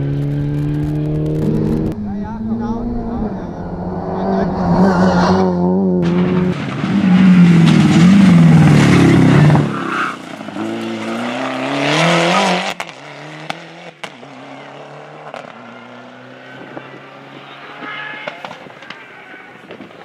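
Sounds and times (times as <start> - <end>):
rally car engine at high revs: 0.0 - 18.6.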